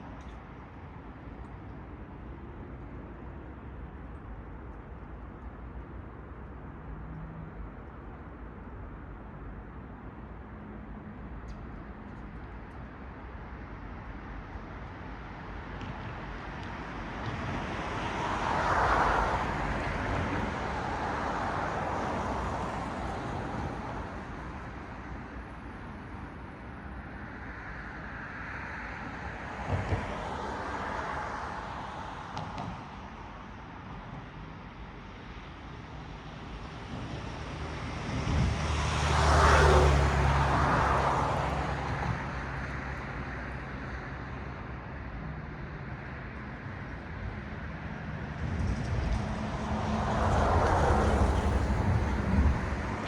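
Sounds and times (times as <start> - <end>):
cars passing on road: 0.0 - 53.0.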